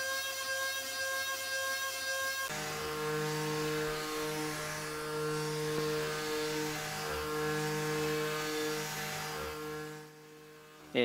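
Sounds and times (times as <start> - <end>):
mill spindle humming and whining: 0.2 - 11.0.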